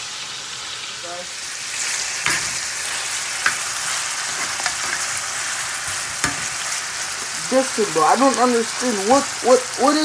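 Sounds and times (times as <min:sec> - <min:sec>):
vegetables sizzling in frying pan: 0:00.0 - 0:10.0.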